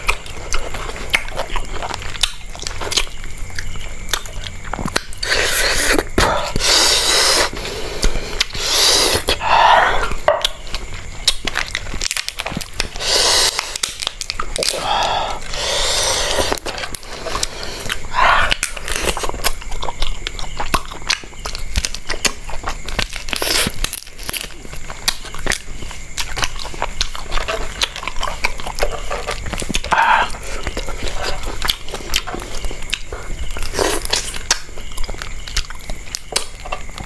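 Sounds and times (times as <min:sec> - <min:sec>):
person chewing and crunching food: 0:00.0 - 0:37.0.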